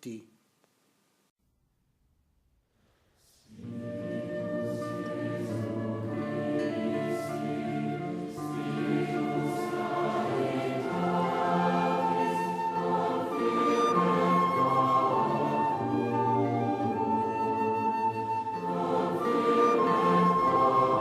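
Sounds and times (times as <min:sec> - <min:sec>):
choir singing slow chords: 0:03.2 - 0:21.0
instrumental accompaniment: 0:03.6 - 0:21.0.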